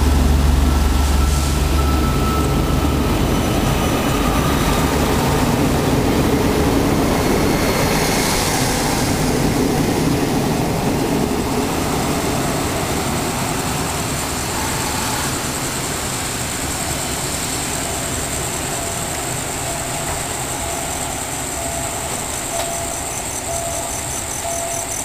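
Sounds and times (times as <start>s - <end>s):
steady engine hum: 0.0s - 25.0s
train rumbling past on rails: 0.0s - 25.0s.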